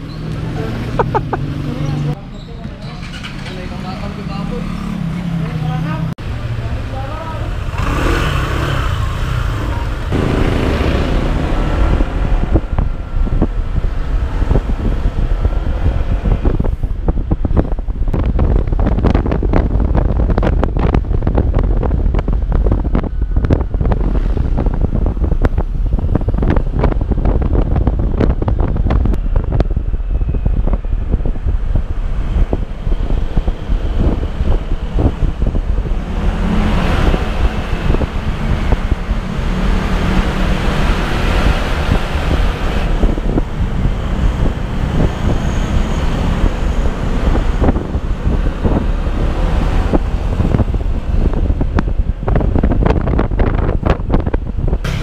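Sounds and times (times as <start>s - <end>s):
motorcycle engine rumble: 0.0s - 45.1s
wind buffeting microphone: 7.0s - 55.0s.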